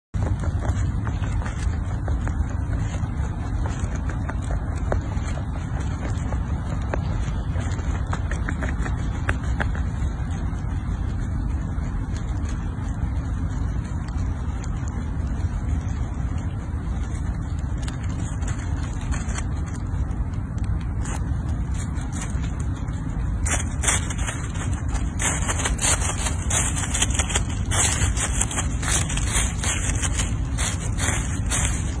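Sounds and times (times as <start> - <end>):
steady low rumble: 0.1 - 32.0
dry leaves crackling and rustling: 0.2 - 32.0.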